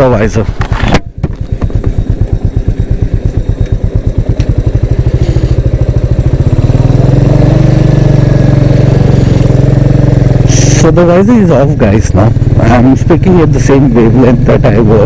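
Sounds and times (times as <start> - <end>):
motorcycle engine accelerating: 0.1 - 15.0.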